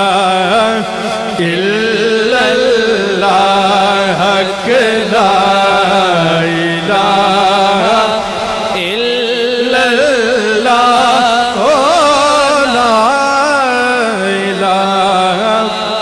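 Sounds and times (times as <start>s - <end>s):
men singing melismatic notes: 0.0s - 16.0s.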